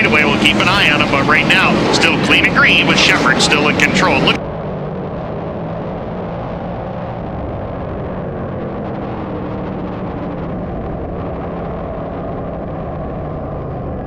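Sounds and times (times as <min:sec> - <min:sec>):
racing car engines droning: 0:00.0 - 0:14.0.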